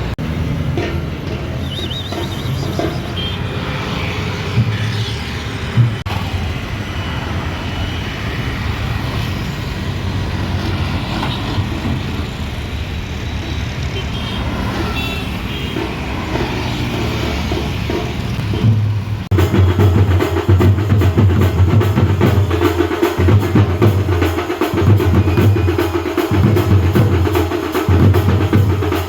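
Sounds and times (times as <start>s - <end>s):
vehicle engines and road noise: 0.0s - 29.0s.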